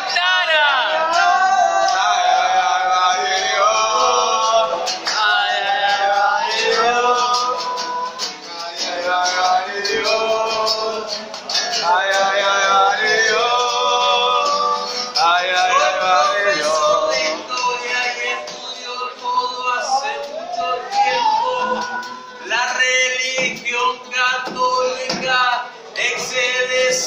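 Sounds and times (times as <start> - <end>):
acoustic guitar: 0.0 - 27.0
man singing: 0.0 - 27.0.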